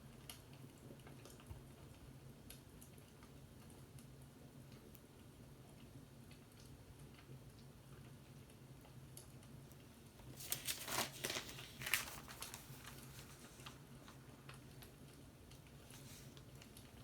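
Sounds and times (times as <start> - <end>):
faint fireplace crackling: 0.0 - 17.0.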